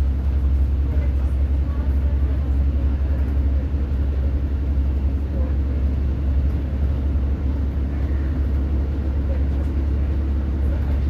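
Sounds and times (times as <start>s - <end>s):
train diesel engine rumble: 0.0s - 11.0s.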